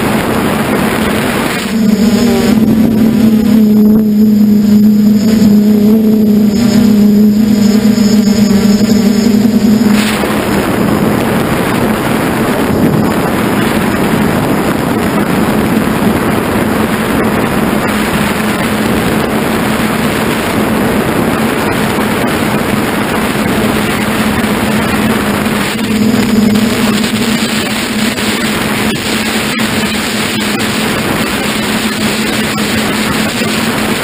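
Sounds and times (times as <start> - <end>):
drone motors and propellers: 0.0 - 34.0
wind rush over microphone: 0.0 - 34.0.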